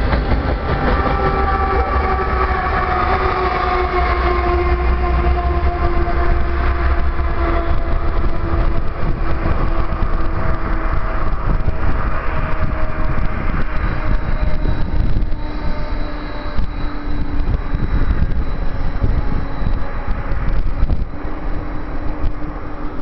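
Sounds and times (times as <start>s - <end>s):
freight train rumbling: 0.0s - 23.0s
locomotive engine hum: 0.0s - 23.0s
wind on microphone: 0.0s - 23.0s.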